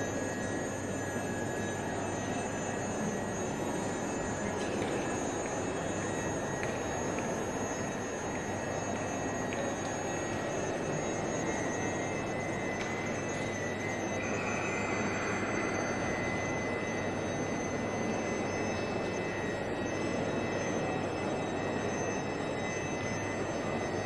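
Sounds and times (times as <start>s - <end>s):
high-pitched sine tones: 0.0s - 24.0s
rumble of large hall ambience: 0.0s - 24.0s.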